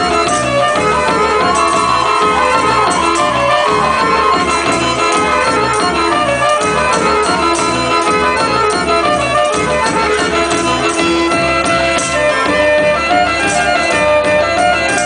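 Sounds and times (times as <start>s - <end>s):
folk dance music: 0.0s - 15.0s.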